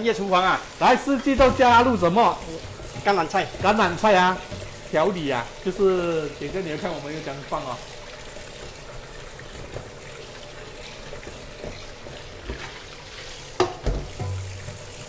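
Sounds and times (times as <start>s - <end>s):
tap water running into sink: 0.0s - 15.0s
sponge scrubbing wok: 0.1s - 15.0s.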